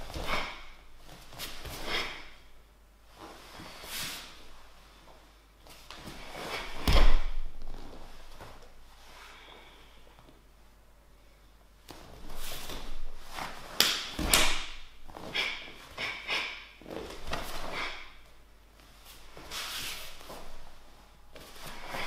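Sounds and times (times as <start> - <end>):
bare feet on mats: 0.0 - 2.5, 3.1 - 10.4, 11.8 - 22.0.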